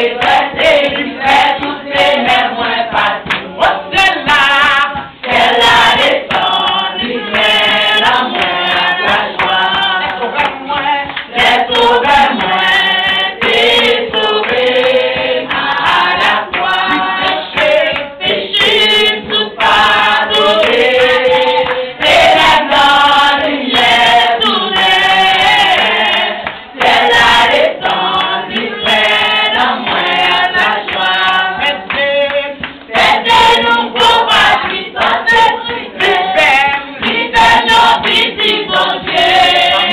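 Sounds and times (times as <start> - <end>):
women singing together: 0.0 - 39.9.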